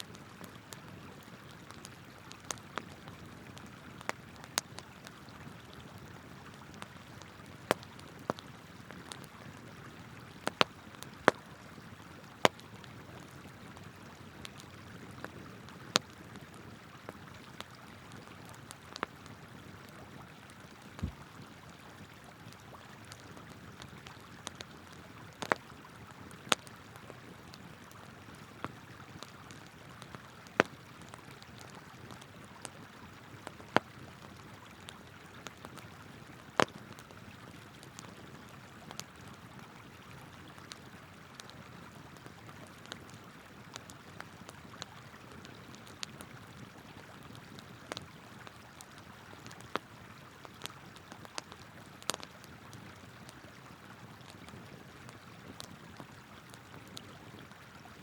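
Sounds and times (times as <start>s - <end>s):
campfire crackling: 0.0s - 57.8s.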